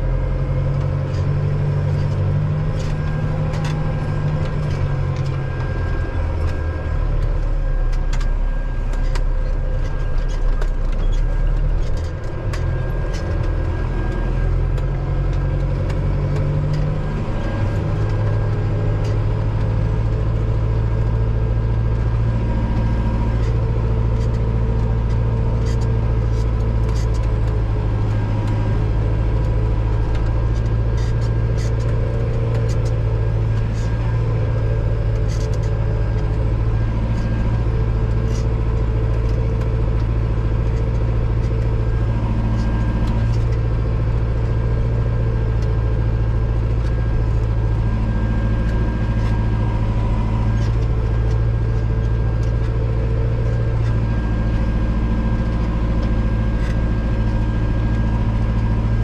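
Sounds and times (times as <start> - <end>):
tractor diesel engine droning: 0.0 - 59.0.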